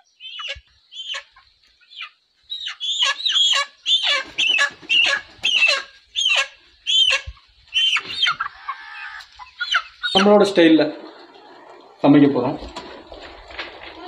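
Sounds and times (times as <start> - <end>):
chicken squawking: 0.2 - 1.4, 2.0 - 14.0.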